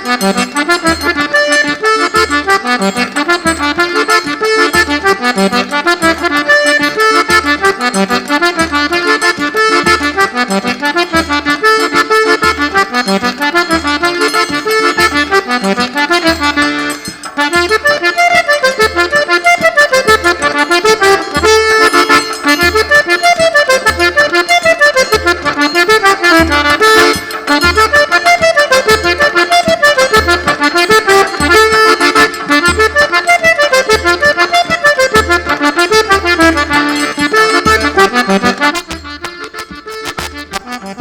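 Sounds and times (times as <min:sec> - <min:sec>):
button accordion playing lively tune: 0:00.0 - 0:41.0.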